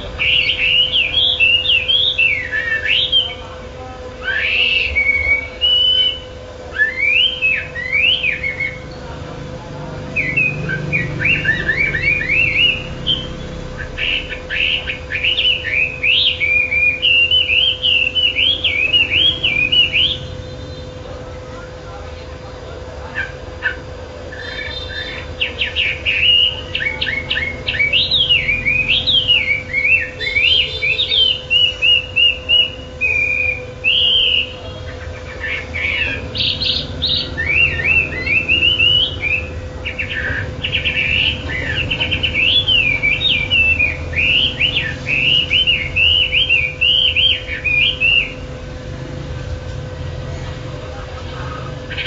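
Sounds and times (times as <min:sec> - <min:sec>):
songbird singing: 0:00.0 - 0:52.0.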